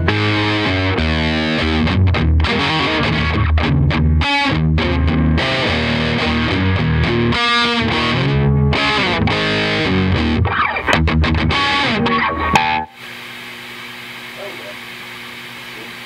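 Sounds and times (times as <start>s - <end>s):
distorted electric guitar: 0.0s - 13.2s
amplifier hum and hiss: 0.0s - 16.0s.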